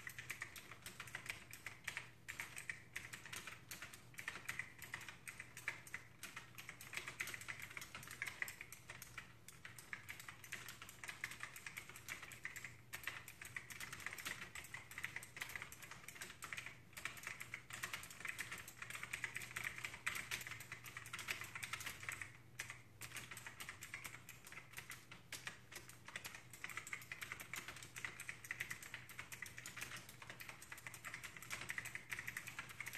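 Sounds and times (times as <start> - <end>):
mechanical keyboard typing: 0.0 - 32.9.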